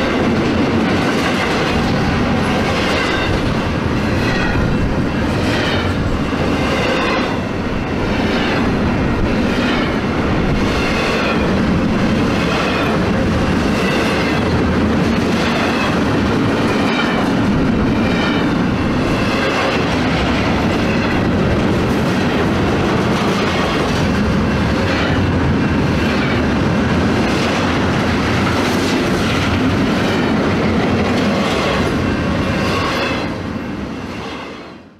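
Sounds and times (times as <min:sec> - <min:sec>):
train wheels clickety-clack: 0:00.0 - 0:34.9.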